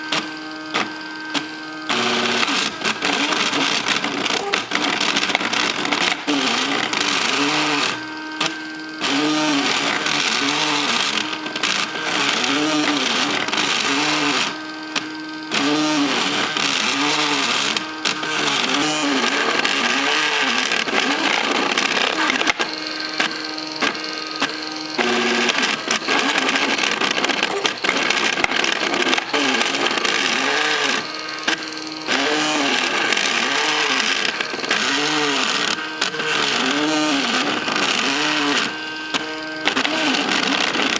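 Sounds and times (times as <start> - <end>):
stepper motors whining: 0.0 - 40.9.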